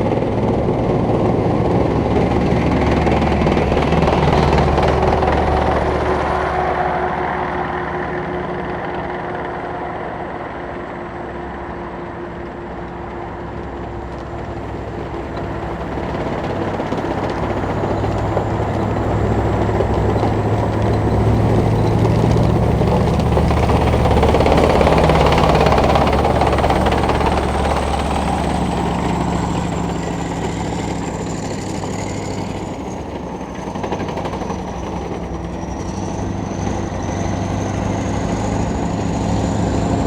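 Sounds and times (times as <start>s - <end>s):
tank engine and tracks: 0.0s - 40.0s
tracked vehicle approaching: 0.0s - 40.0s.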